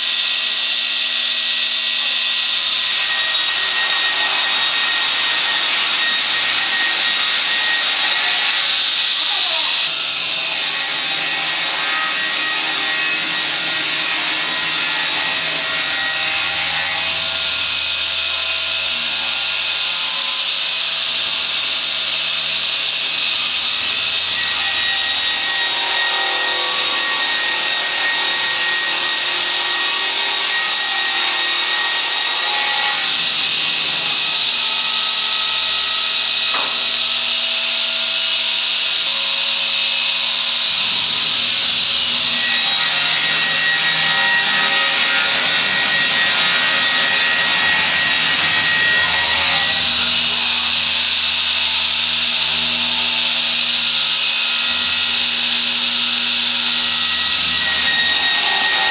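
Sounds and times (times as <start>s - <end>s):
circular saw cutting log: 0.0s - 58.9s.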